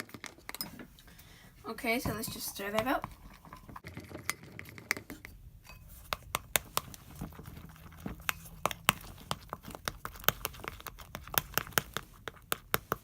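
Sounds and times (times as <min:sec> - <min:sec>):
utensil stirring slime in a bowl: 0:00.0 - 0:13.0
clicks and taps against bowl: 0:02.0 - 0:13.0.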